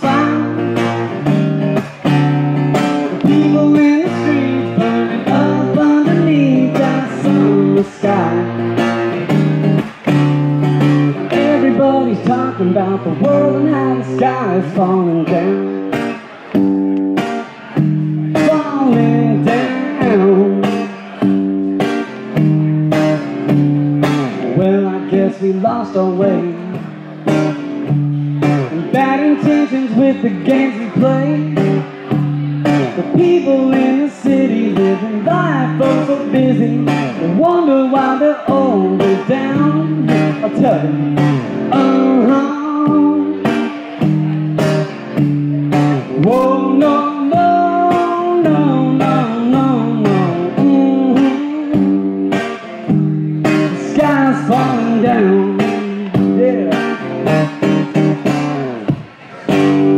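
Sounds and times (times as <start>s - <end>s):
person singing: 0.0s - 16.6s, 17.2s - 22.4s, 23.0s - 59.9s
amplified blues guitar: 0.0s - 59.9s
bass notes: 0.0s - 59.9s.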